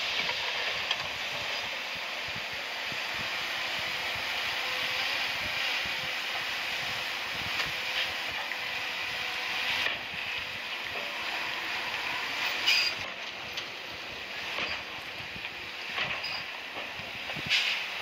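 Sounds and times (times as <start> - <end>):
bulldozer engine running: 0.0 - 18.0.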